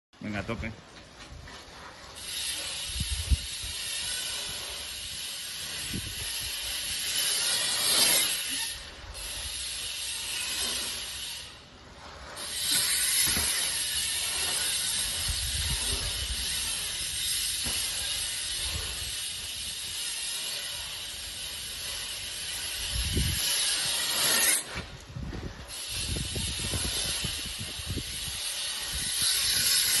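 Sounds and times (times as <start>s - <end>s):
bike tyres rolling on pavement: 0.7s - 30.0s.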